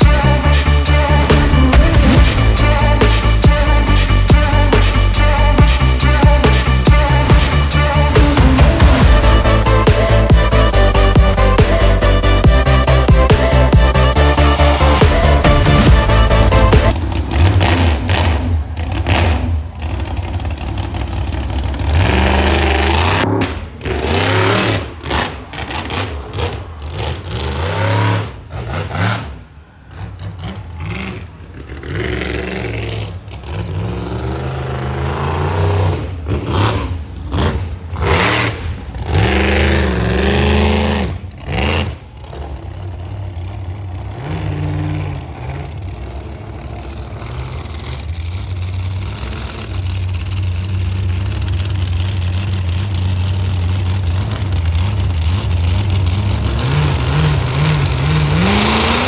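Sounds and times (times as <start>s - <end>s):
monster truck engine revving: 0.0s - 59.0s.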